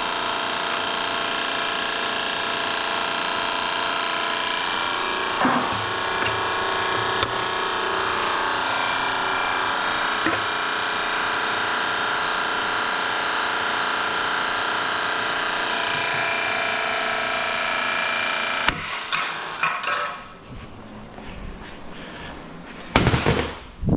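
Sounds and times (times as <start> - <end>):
power tool motor running: 0.0 - 19.6.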